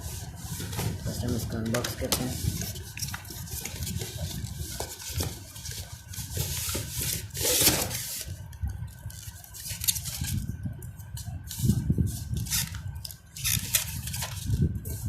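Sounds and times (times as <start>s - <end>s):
cardboard and plastic packaging handled: 0.0s - 15.0s.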